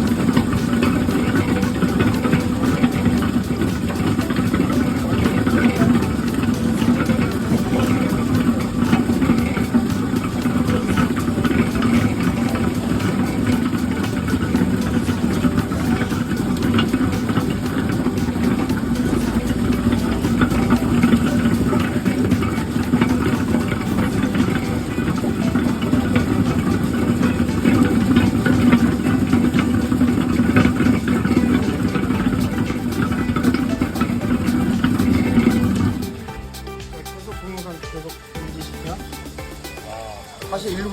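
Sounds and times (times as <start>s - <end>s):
load rattling in peeling machine: 0.0s - 39.0s
motor hum: 0.0s - 40.9s.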